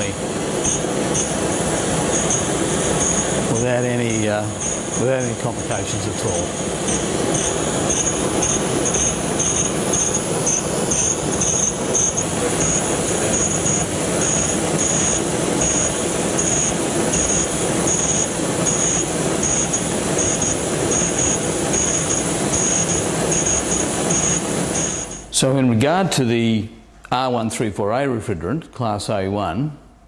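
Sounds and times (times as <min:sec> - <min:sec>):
blowtorch gas jet hissing: 0:00.0 - 0:25.3.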